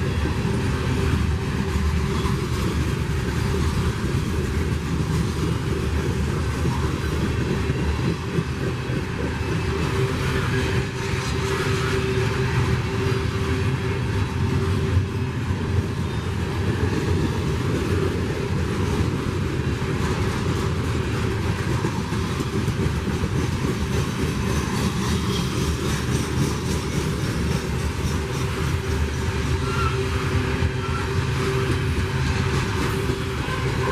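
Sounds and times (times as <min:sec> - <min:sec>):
train wheels on rail: 0:00.0 - 0:33.9.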